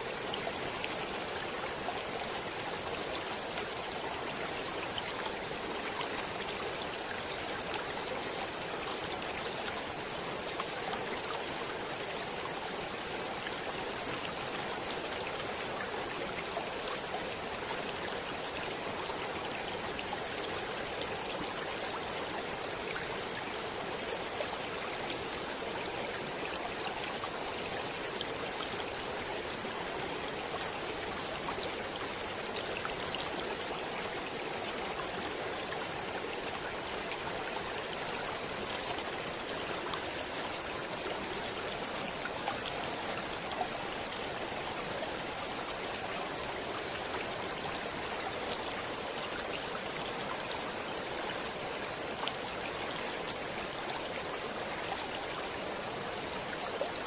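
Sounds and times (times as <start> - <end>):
stream water flowing over stones: 0.0 - 57.0.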